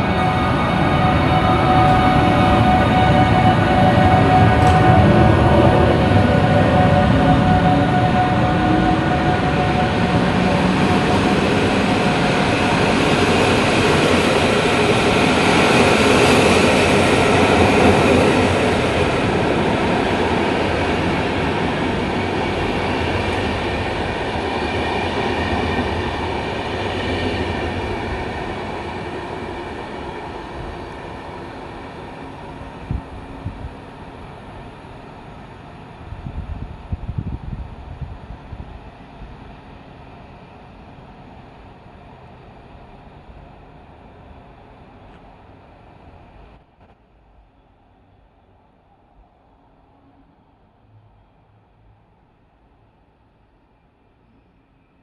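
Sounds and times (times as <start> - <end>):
passenger train running past: 0.0 - 55.0.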